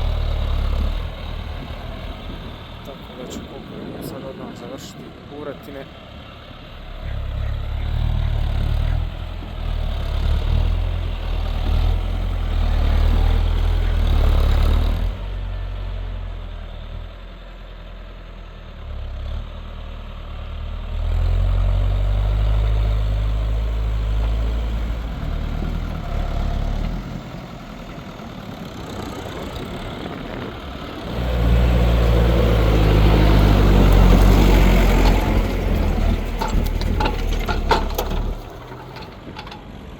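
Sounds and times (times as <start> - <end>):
tractor diesel engine working: 0.0 - 39.9.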